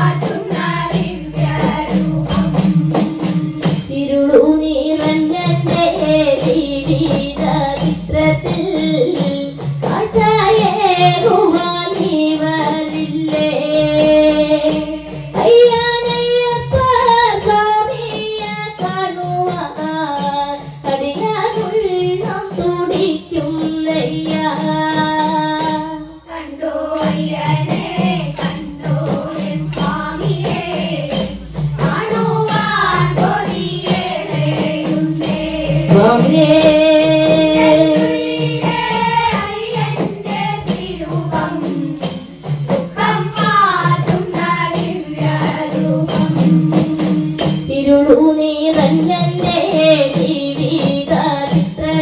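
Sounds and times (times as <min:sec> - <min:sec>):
hand drums beating: 0:00.0 - 0:52.0
tambourines: 0:00.0 - 0:52.0
women and girls singing together: 0:00.0 - 0:52.0.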